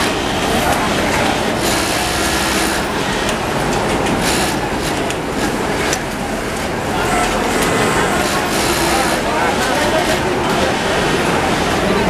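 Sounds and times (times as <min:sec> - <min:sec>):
sewing machine stitching: 0:00.0 - 0:05.9, 0:06.9 - 0:11.8
factory machine din: 0:00.0 - 0:12.0.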